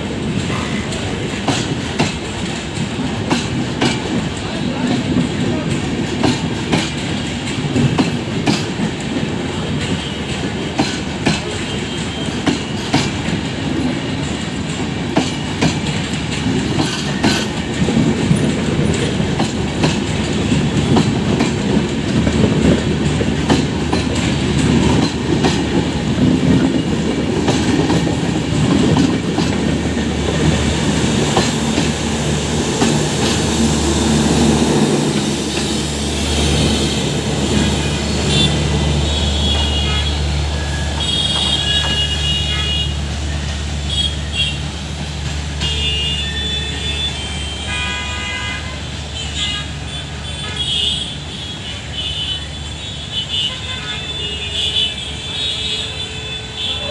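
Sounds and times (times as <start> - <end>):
train rumble: 0.0 - 56.9
train wheels clattering over rails: 0.0 - 56.9.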